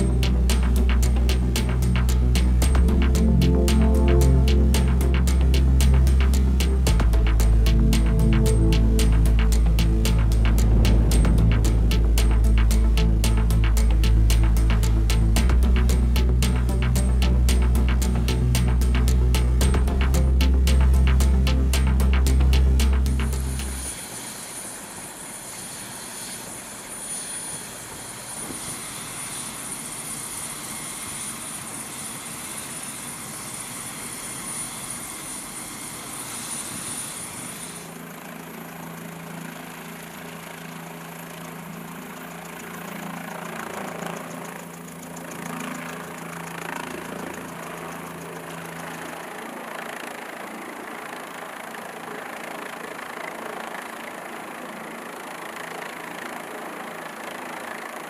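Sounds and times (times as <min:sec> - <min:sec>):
aircraft engine running: 0:00.0 - 0:58.0.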